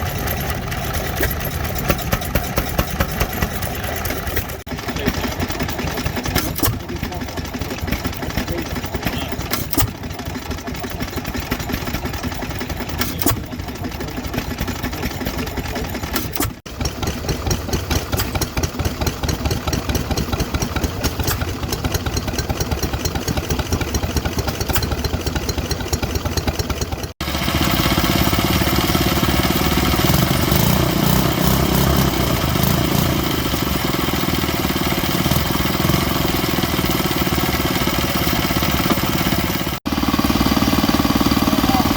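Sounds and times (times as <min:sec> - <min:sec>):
engine fast even ticking: 0:00.0 - 0:41.9
stationary engine running: 0:00.0 - 0:41.9.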